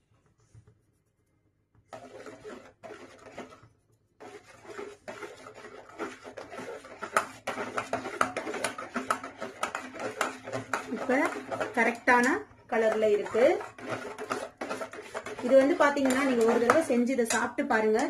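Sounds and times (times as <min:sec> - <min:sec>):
spatula scraping steel pot: 0:01.9 - 0:18.0.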